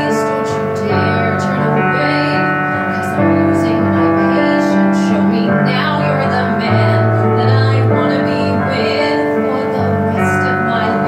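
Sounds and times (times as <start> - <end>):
slow piano ballad chords: 0.0 - 11.0.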